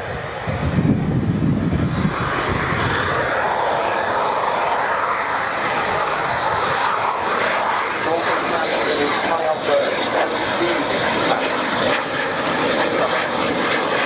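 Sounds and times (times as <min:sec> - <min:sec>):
jet engines roaring overhead: 0:00.0 - 0:14.0.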